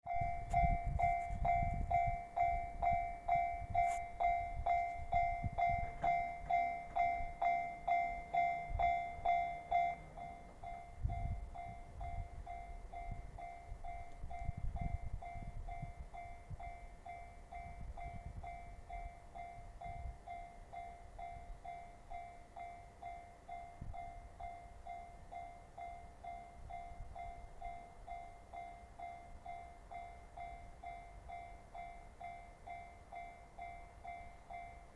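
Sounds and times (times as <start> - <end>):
level-crossing warning bell ringing: 0.1 - 34.9.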